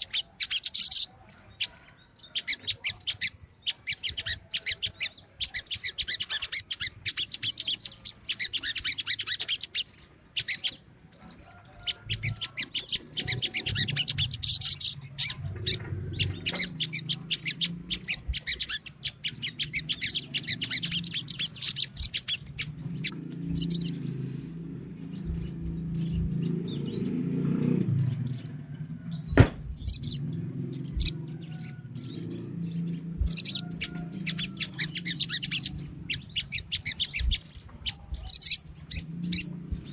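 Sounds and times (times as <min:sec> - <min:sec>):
jays rattling chatter calls: 0:00.0 - 0:39.9.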